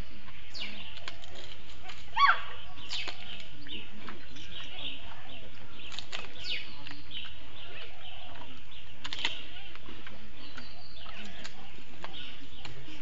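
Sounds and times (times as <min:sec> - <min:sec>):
birds chirping: 0:00.0 - 0:13.0
bamboo stalks crunching and snapping: 0:00.6 - 0:04.6, 0:05.3 - 0:13.0.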